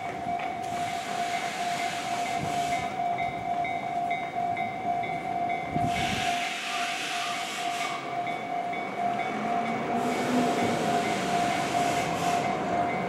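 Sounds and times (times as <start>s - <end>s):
railroad crossing alarm bell: 0.0s - 13.0s
rushing train: 0.0s - 13.0s.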